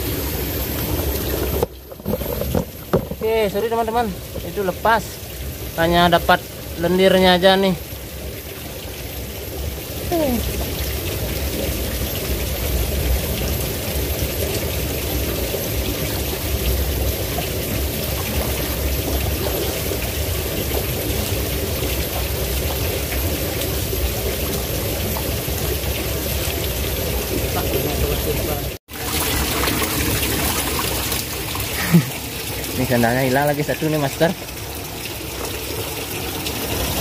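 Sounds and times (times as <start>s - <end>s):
stream running over rocks: 0.0s - 37.0s.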